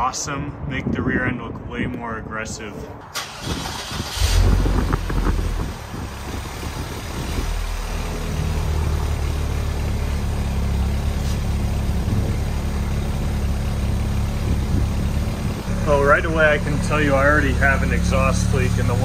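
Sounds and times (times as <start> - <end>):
car engine idling: 3.2 - 19.0.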